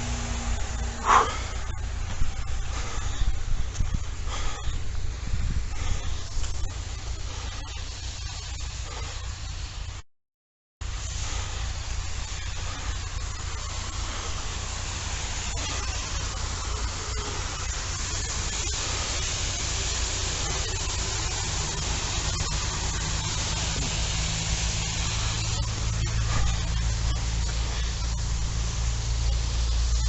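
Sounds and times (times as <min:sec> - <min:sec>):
engine hum: 0:00.0 - 0:10.0, 0:10.8 - 0:30.0
road and wind noise: 0:00.0 - 0:10.0, 0:10.8 - 0:30.0.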